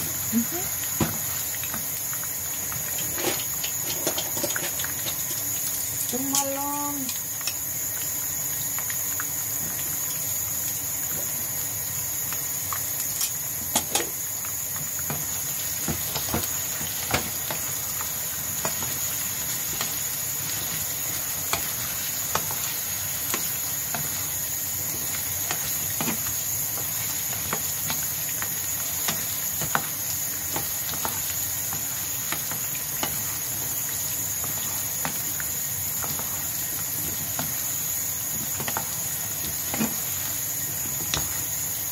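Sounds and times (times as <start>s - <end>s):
vegetables sizzling in oil: 0.0s - 41.9s.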